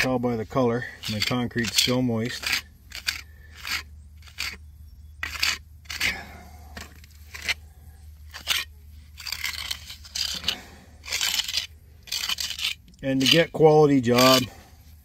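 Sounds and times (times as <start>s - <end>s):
trowel scraping mortar: 0.0s - 7.7s, 8.3s - 14.7s.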